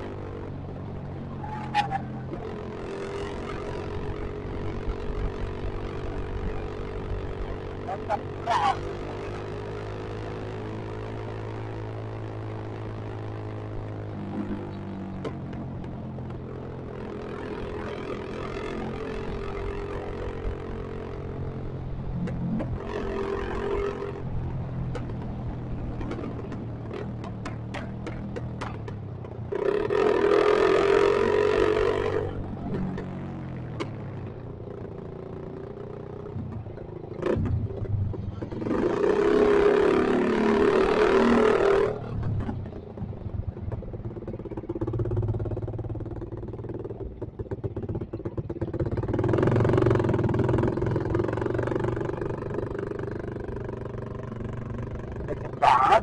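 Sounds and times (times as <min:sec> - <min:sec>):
motorcycle with loud exhaust: 0:00.0 - 0:56.0
road and wind noise: 0:00.0 - 0:56.0.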